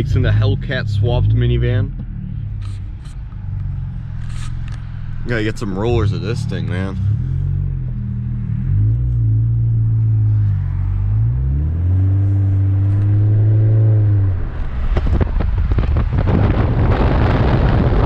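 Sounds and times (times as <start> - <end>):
engine accelerating hard: 0.0 - 18.0.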